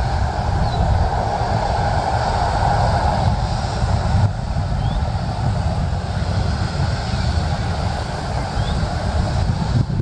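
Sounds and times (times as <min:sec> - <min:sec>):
jet engines: 0:00.0 - 0:10.0
wind buffeting microphone: 0:00.0 - 0:10.0.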